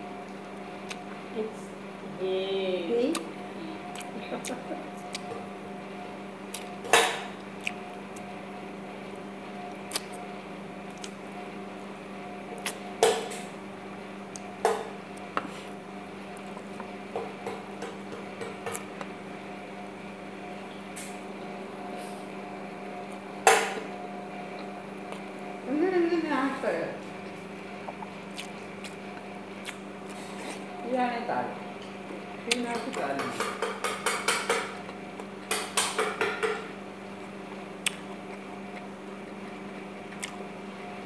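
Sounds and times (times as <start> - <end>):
steady hum: 0.0 - 41.0.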